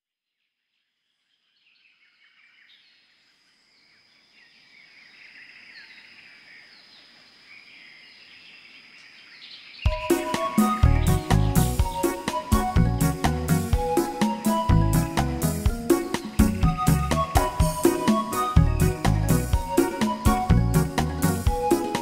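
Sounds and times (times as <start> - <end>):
high chirps of birds: 0.7 - 22.0.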